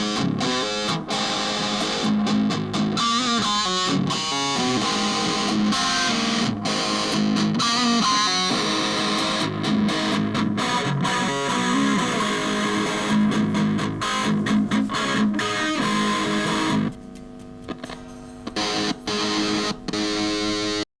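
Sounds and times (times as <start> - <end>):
distorted electric guitar: 0.0 - 20.9.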